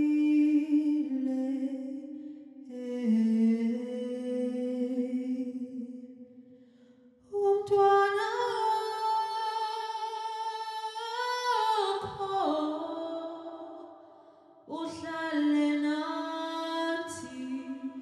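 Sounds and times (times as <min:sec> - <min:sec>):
woman singing: 0:00.0 - 0:06.4, 0:07.2 - 0:18.0.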